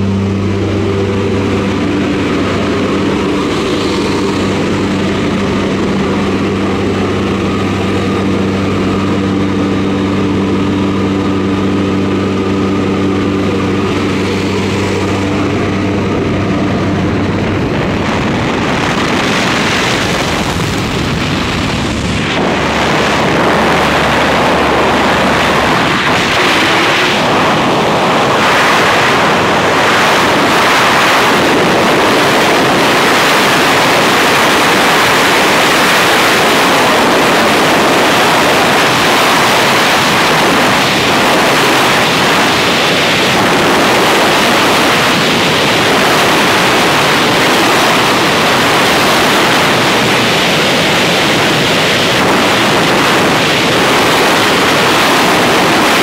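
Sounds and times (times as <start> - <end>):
freefall wind buffeting microphone: 0.0 - 56.0.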